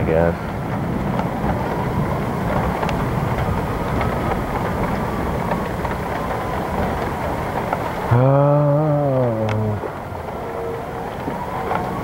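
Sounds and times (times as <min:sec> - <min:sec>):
faint siren wailing: 0:00.0 - 0:12.0
storm wind gusting through trees: 0:00.0 - 0:12.0
wind buffeting microphone: 0:00.0 - 0:12.0.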